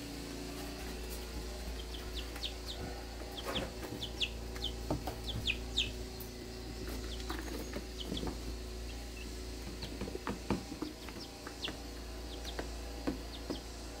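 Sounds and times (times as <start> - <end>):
steady low hum: 0.0 - 14.0
chicks peeping: 0.6 - 14.0.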